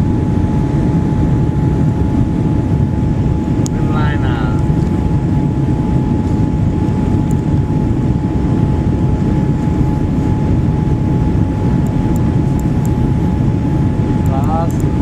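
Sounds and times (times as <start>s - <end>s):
jet engine rumble and whine in cabin: 0.0s - 15.0s.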